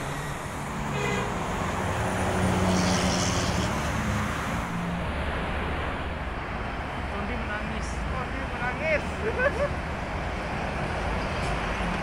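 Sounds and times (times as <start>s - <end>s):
highway traffic rushing: 0.0s - 12.0s
passing vehicle engine hum: 0.0s - 12.0s.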